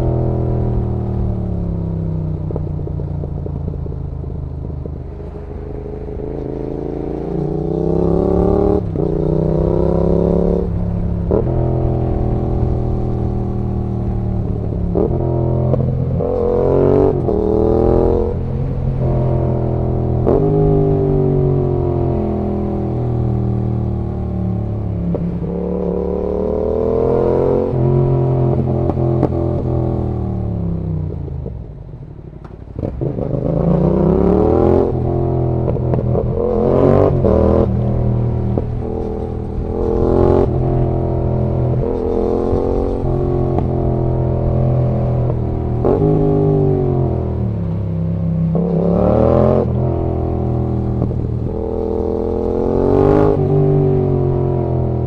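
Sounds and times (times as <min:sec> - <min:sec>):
motorcycle engine revving: 0:00.0 - 0:31.5, 0:32.7 - 0:55.0.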